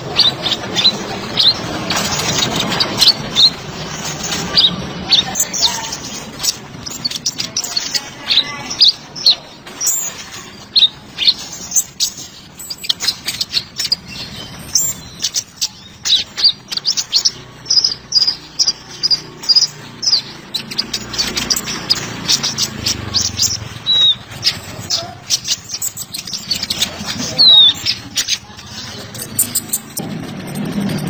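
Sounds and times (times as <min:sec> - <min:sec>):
sunbird chirping and trilling: 0:00.0 - 0:30.0.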